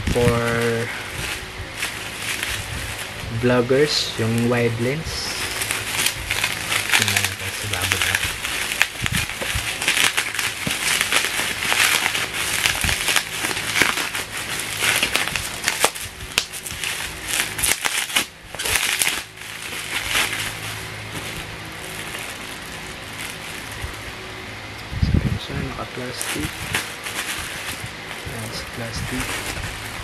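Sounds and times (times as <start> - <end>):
plastic packaging crinkling: 0.0 - 24.3, 26.0 - 30.0.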